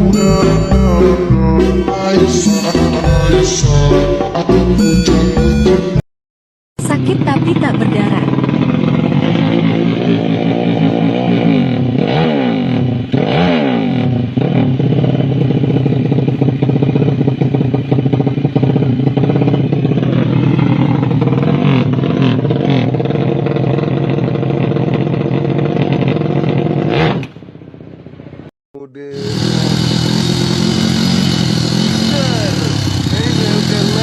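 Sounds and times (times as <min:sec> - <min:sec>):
motorcycle engine revving high: 0:00.0 - 0:06.0, 0:06.8 - 0:28.4, 0:29.1 - 0:34.0.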